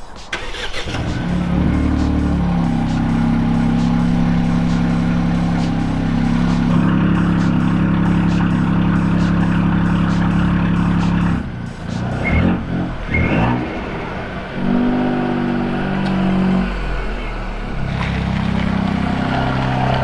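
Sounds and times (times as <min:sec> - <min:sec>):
car engine revving: 0:00.1 - 0:20.0.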